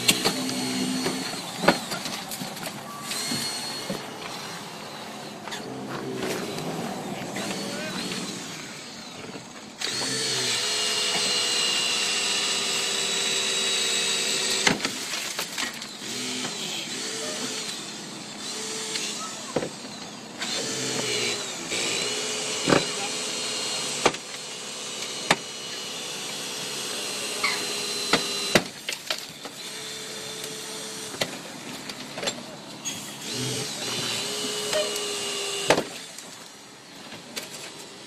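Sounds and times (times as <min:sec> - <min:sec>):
hydraulic rescue tool running: 0:00.0 - 0:38.0.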